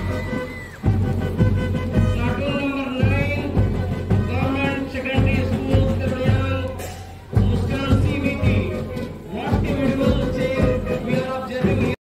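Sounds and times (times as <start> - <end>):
person singing over a beat: 2.1 - 12.0.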